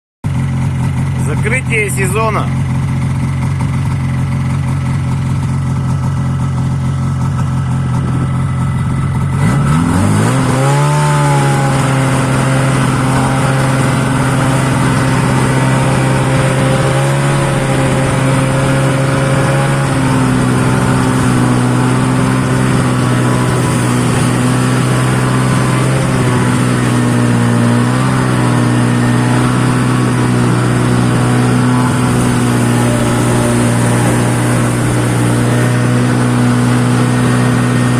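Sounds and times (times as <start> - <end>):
snowmobile engine idling and revving: 0.2 - 37.9.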